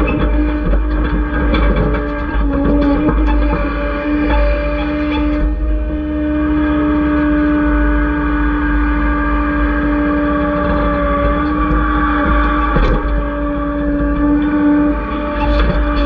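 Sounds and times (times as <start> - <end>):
excavator diesel engine whining: 0.0 - 16.0.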